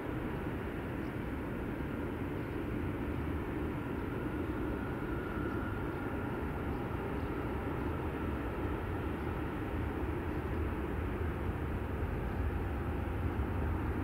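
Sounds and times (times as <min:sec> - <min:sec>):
faint engine whine: 0:00.0 - 0:14.0
jet engines rumbling: 0:00.0 - 0:14.0.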